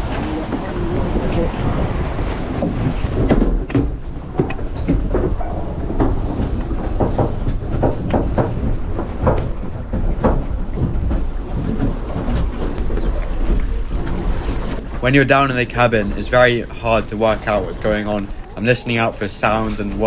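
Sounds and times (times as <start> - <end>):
boat fittings knocking and rattling: 0.0 - 20.0
wind rumbling on microphone: 0.0 - 20.0.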